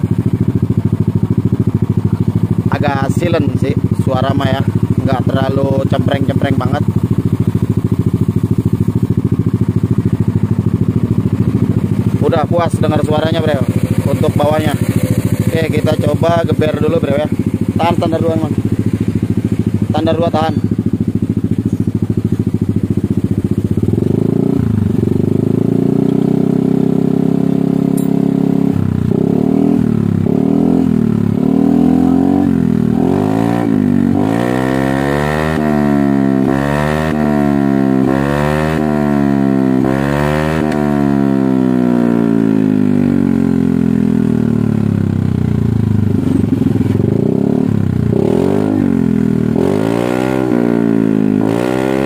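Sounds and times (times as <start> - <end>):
scooter engine revving: 0.0 - 52.0.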